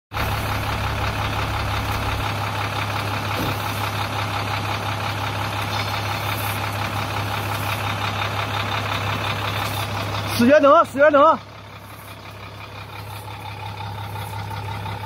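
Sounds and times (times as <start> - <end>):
diesel truck engine idling: 0.1 - 15.0.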